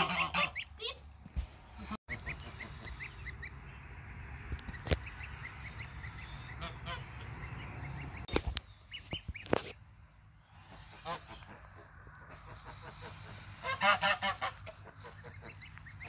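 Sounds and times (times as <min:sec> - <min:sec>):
gosling peeping: 0:00.0 - 0:00.9, 0:01.8 - 0:03.8, 0:04.6 - 0:09.8, 0:10.4 - 0:16.0.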